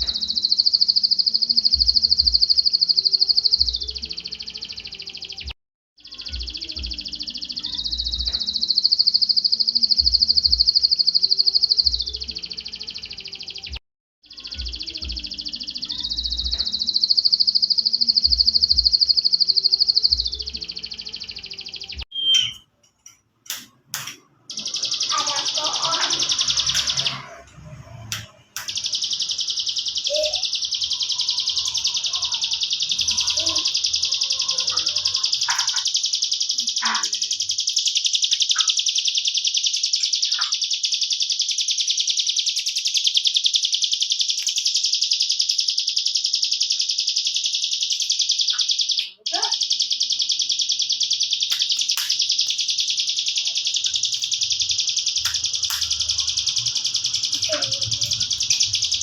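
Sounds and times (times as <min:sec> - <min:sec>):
songbird rapid high trill: 0:00.0 - 0:05.4, 0:06.0 - 0:13.7, 0:14.3 - 0:22.5, 0:24.5 - 0:27.4, 0:28.6 - 0:59.0
faint lower chirps: 0:00.0 - 0:22.7, 0:28.7 - 0:59.0.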